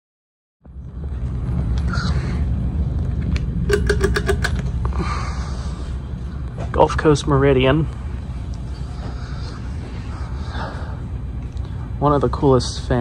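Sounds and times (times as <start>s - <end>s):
ceiling fan airflow buffeting microphone: 0.7s - 13.0s.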